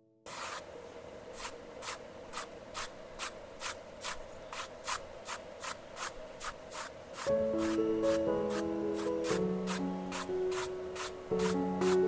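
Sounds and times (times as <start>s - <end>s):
paintbrush strokes on canvas: 0.3s - 12.0s.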